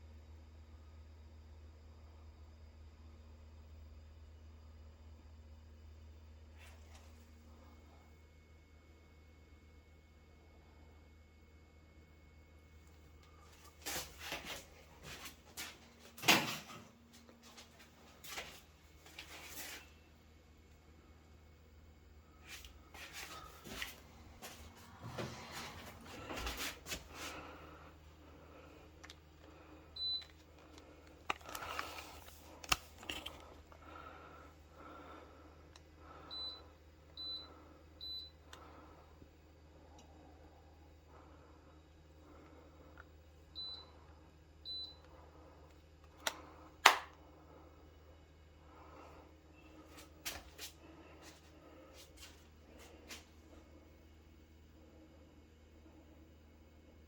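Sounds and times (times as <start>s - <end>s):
heat pump humming: 0.0s - 57.0s.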